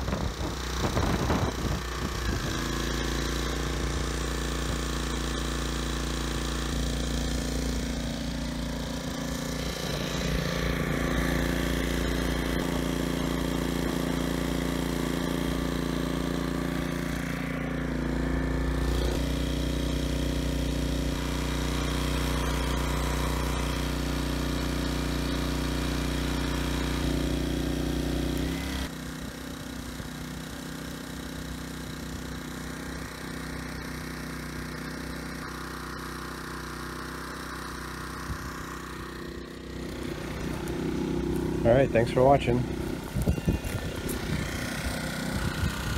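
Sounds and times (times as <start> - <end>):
generator engine running: 0.0 - 45.9.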